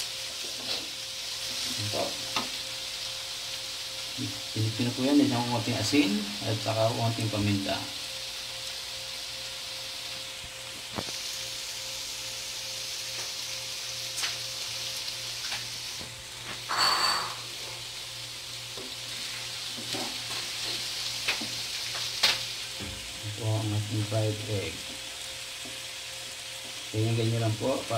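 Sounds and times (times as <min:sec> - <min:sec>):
egg sizzling in a pan: 0:00.0 - 0:27.9.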